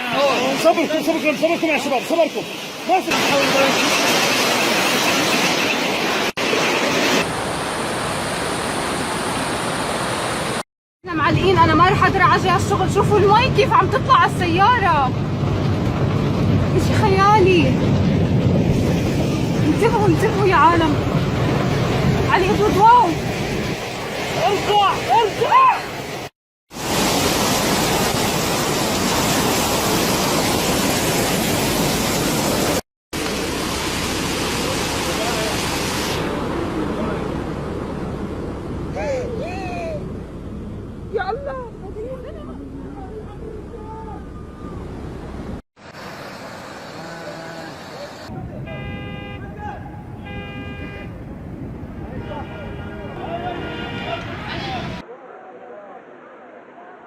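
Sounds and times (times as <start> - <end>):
heavy rain and floodwater rushing: 0.0 - 10.6, 11.7 - 41.3, 45.0 - 55.1.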